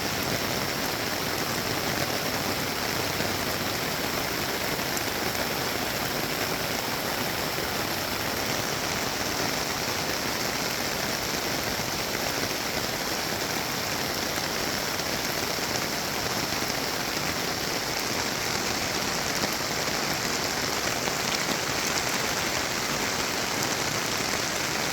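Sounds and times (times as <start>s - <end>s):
flooded creek rushing: 0.0s - 24.9s
heavy rain: 0.0s - 24.9s.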